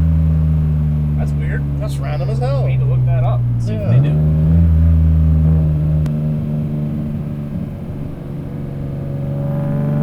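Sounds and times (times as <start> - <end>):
car engine at steady revs: 0.0 - 10.0.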